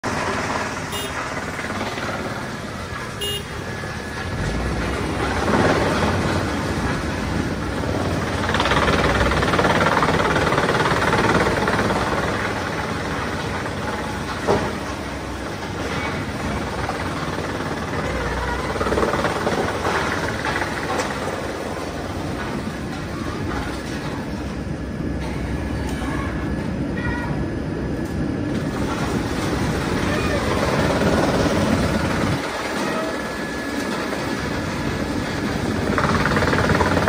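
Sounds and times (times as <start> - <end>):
excavator engine: 0.0 - 37.0
hydraulics working: 0.0 - 37.0
wood chipper running: 0.0 - 37.0.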